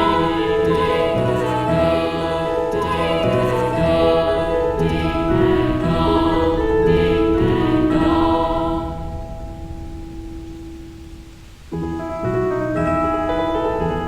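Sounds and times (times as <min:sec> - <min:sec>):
slow choir-like background music: 0:00.0 - 0:14.0.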